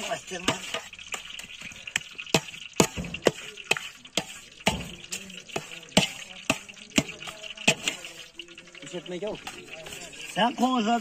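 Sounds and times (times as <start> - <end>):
metal skimmer scraping metal basin: 0.0 - 11.0.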